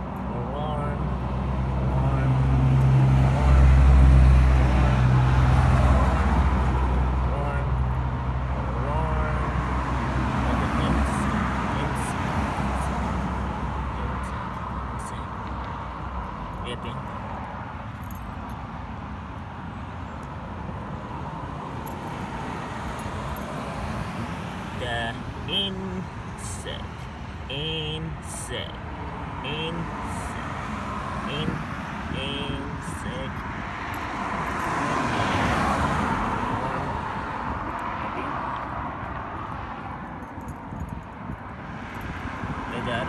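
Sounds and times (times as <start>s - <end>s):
road traffic noise: 0.0s - 43.0s
vehicle passing: 0.0s - 43.0s.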